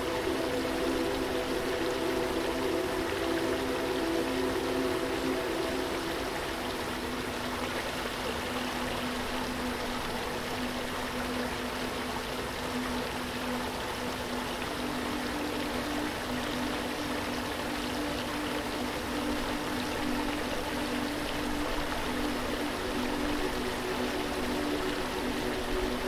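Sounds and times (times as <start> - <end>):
low sustained musical tone: 0.0 - 26.0
rushing water: 0.0 - 26.0.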